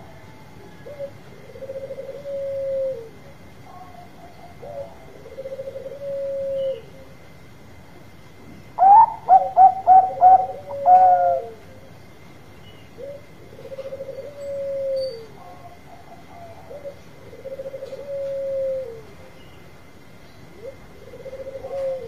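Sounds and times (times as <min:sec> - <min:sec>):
dove cooing: 0:00.0 - 0:07.2, 0:08.8 - 0:11.8, 0:12.9 - 0:19.3, 0:20.5 - 0:22.0.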